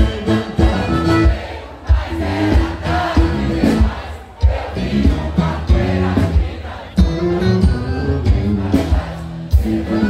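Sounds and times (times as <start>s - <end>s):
live band music over loud pa: 0.0s - 10.0s.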